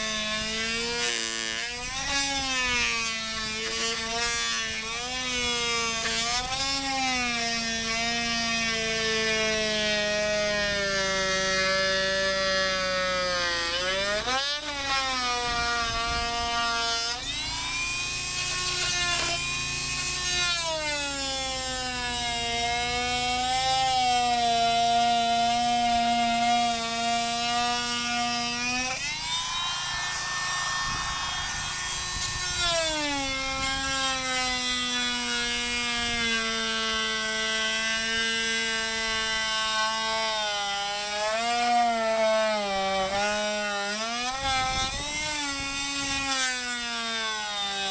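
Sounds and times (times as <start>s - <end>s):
power drill boring through wall: 0.0s - 47.9s.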